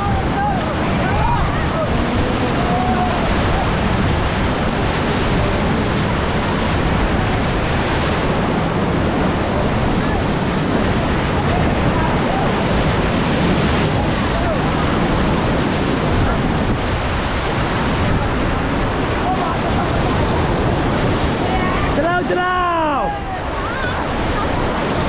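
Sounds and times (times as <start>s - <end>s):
whitewater rapid rushing: 0.0s - 25.0s.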